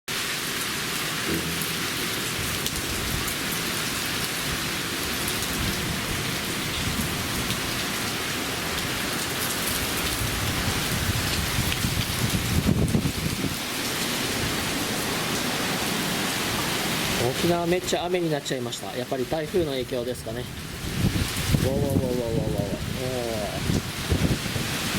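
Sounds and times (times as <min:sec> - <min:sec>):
heavy rain pouring: 0:00.1 - 0:24.9.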